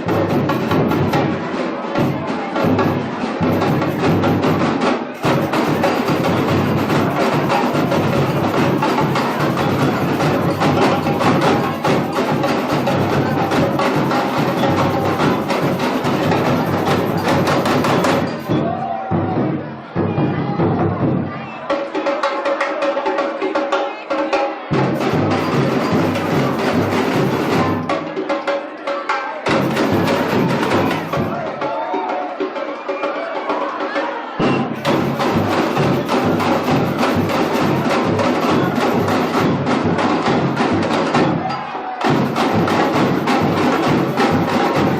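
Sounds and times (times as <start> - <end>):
samba drums and percussion: 0.0 - 44.9.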